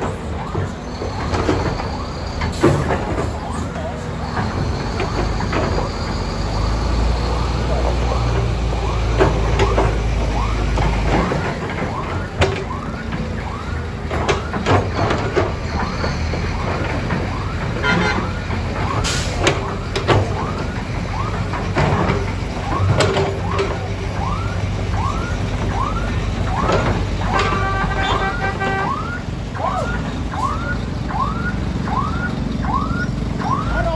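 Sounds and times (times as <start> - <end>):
metal clanks and knocks: 0.0 - 6.4, 7.7 - 30.4
diesel engine running: 0.0 - 33.9.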